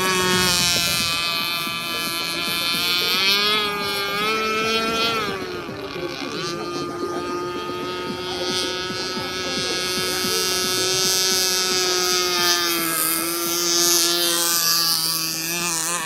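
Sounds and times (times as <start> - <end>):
boat two-stroke engine running: 0.0 - 16.0.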